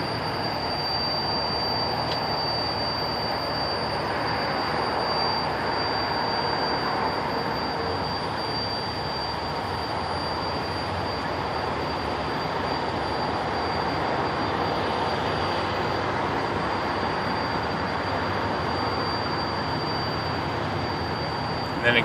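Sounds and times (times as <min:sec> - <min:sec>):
high-pitched whistle: 0:00.0 - 0:22.0
road and engine noise: 0:00.0 - 0:22.0.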